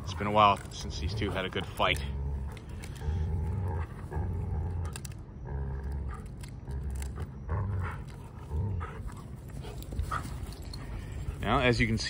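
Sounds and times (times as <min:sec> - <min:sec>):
dogs play growling: 0:00.0 - 0:12.0.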